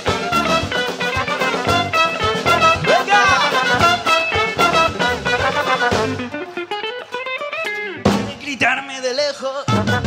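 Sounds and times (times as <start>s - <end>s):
electric guitar plucked notes: 0.0s - 8.6s.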